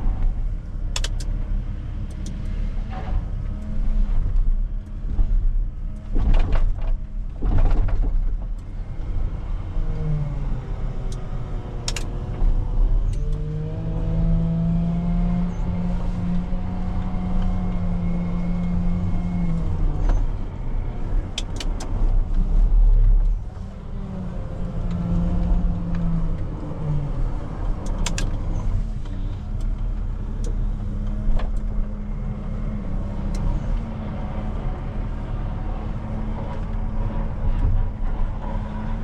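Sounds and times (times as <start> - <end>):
diesel engine rumbling: 0.0 - 39.0.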